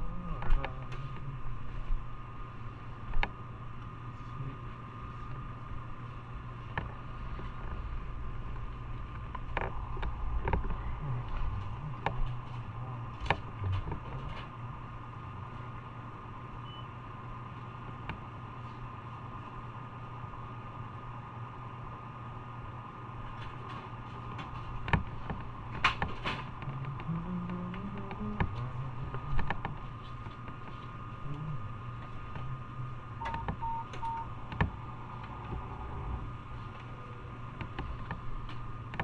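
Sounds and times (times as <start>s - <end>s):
faint constant whine: 0.0s - 39.0s.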